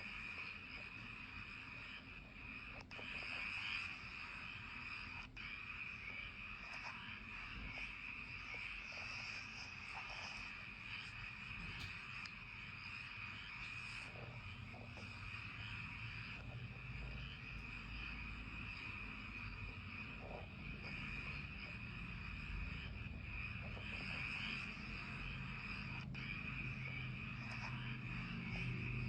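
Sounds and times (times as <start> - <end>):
faint short frog calls: 0.0 - 29.0
insects trilling: 0.0 - 29.0.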